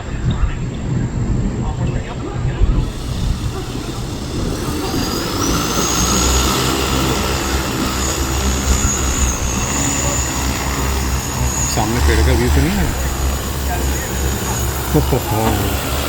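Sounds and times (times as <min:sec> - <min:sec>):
low rumble: 0:02.6 - 0:16.0
drone motors whining: 0:02.8 - 0:16.0.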